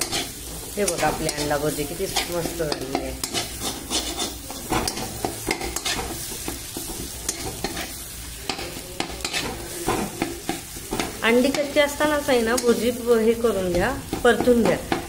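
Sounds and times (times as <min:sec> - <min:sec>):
eggs sizzling in oil: 0:00.0 - 0:15.0
spatula scraping a pan: 0:00.0 - 0:15.0.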